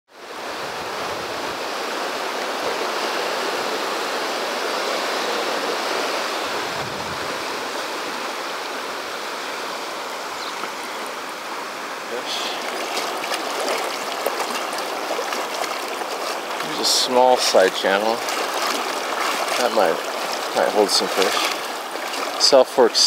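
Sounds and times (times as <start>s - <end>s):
river rushing: 0.1s - 23.0s.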